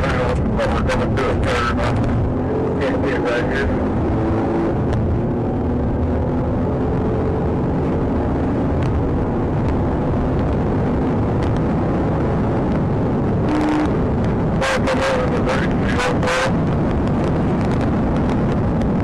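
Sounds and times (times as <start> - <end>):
tyre and wind noise: 0.0 - 2.8, 3.5 - 19.0
car engine at speed: 0.0 - 19.0.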